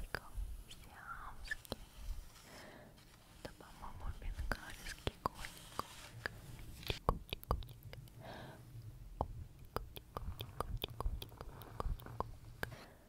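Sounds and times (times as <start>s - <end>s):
breathy whisper: 0.0s - 8.8s, 9.7s - 13.0s.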